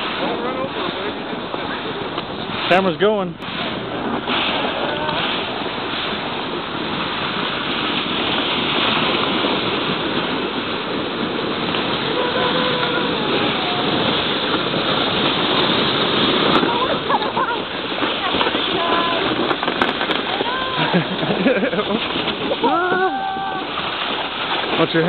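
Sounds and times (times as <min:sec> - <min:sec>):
sled scraping over packed snow: 0:00.0 - 0:25.0.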